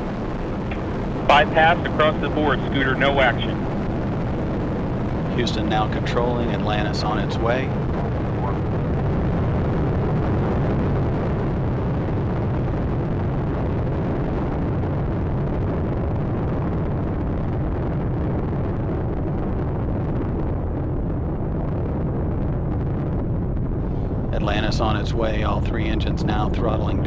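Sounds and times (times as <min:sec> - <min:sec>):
rocket engines deep rumbling: 0:00.0 - 0:27.0.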